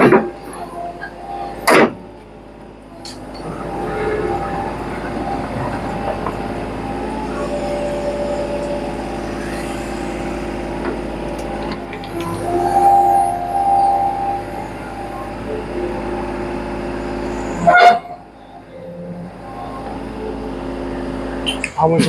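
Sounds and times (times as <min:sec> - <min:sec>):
mini excavator diesel engine: 0:00.0 - 0:22.0.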